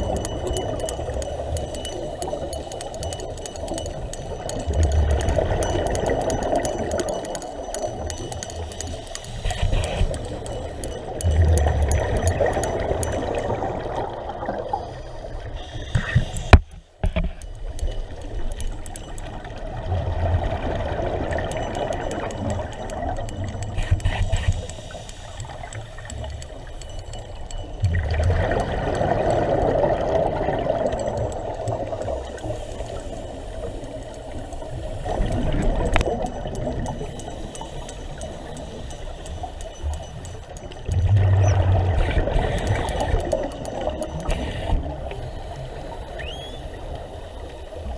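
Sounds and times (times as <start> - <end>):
water noise: 0.0 - 47.9.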